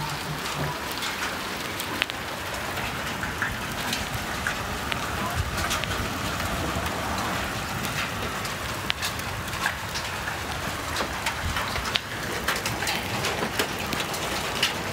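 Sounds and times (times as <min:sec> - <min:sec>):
hailstones cracking on hard surfaces: 0:00.0 - 0:14.9
hailstones falling: 0:00.0 - 0:14.9.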